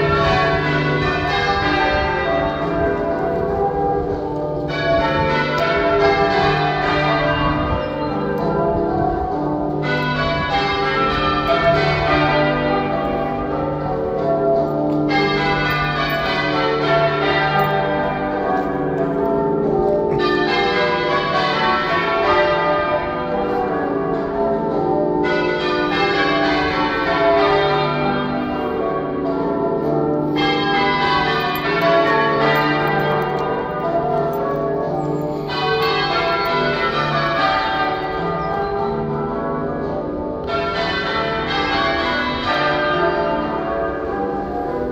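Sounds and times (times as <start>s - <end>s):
half-muffled church bells ringing: 0.0s - 44.9s.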